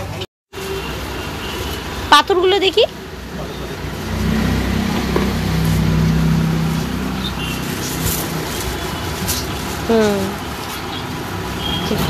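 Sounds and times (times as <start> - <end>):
engine humming: 0.8 - 12.0.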